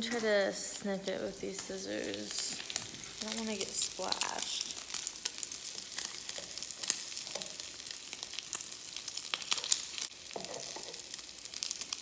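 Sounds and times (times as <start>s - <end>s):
bacon sizzling in a frying pan: 0.0s - 12.0s.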